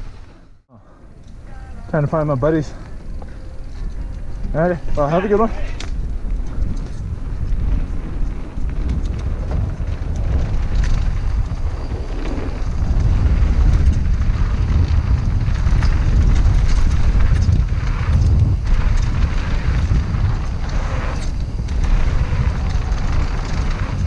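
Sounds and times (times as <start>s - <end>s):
bike clicks and rattles: 1.1s - 24.0s
wind buffeting microphone: 1.1s - 24.0s
bike tyres rumbling on dirt: 1.9s - 24.0s.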